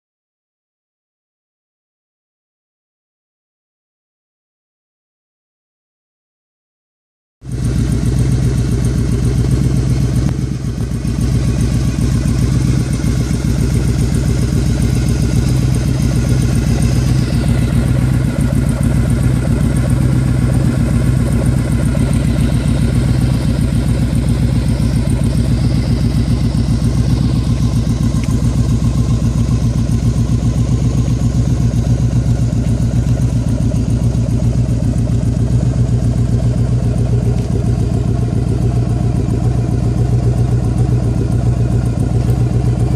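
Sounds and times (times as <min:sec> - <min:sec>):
motorcycle engine idling: 0:07.4 - 0:42.9.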